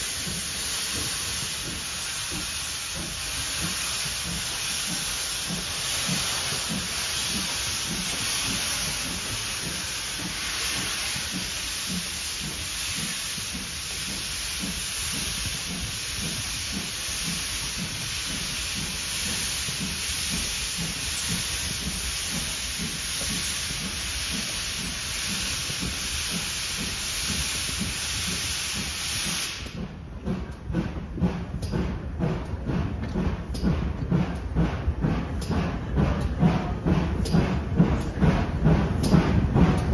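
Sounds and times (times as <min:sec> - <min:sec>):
low regular train beat: 0:00.0 - 0:39.9
steam locomotive hissing: 0:00.0 - 0:39.9.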